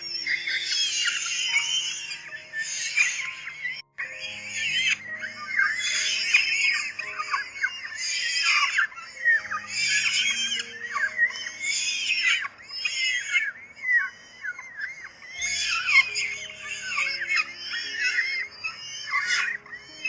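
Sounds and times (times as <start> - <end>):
nestlings chirping shrilly: 0.0 - 20.0
soft background music: 0.0 - 20.0.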